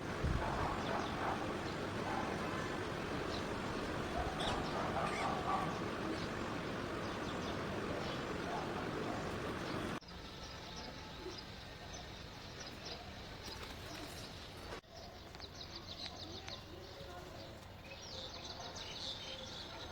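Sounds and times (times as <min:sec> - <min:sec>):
outdoor background noise: 0:00.0 - 0:19.9
small birds chirping: 0:00.0 - 0:19.9.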